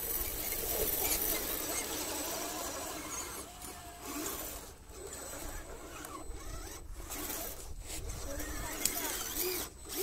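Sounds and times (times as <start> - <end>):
electric motor and gears whining: 0.0 - 10.0.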